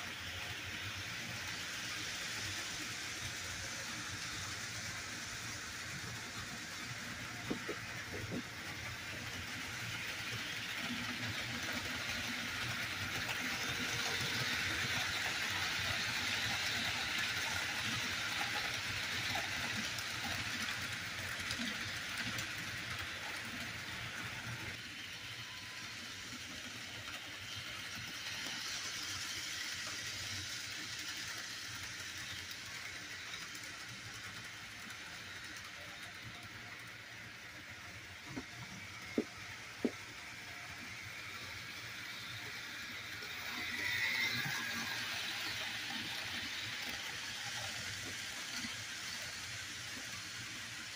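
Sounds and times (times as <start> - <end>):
model train rolling on track: 0.0 - 50.9.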